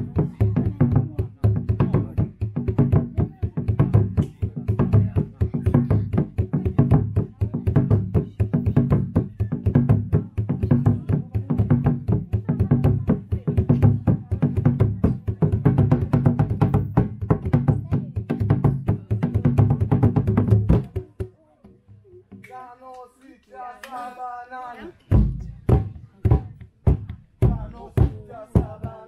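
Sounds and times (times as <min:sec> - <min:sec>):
hand drums in fast rhythm: 0:00.0 - 0:22.5, 0:25.1 - 0:29.0.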